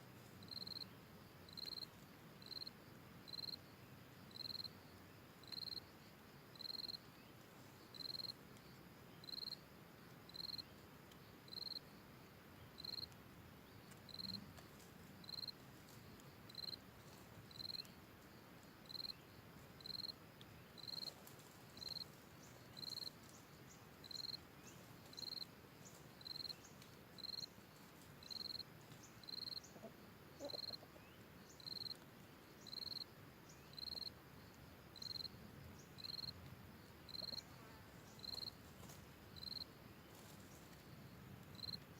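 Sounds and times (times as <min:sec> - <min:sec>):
insect chirping: 0:00.0 - 0:41.9.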